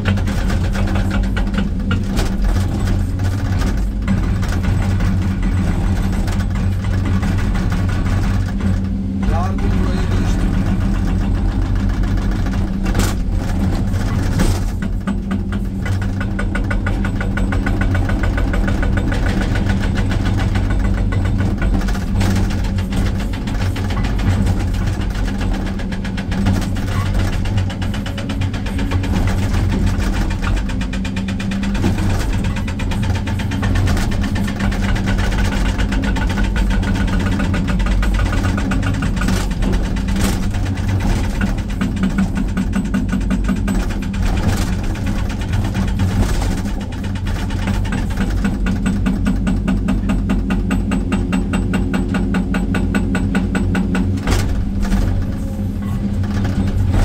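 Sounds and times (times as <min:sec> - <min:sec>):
diesel engine running: 0:00.0 - 0:57.0
hydraulic breaker hammering rock: 0:00.0 - 0:57.0.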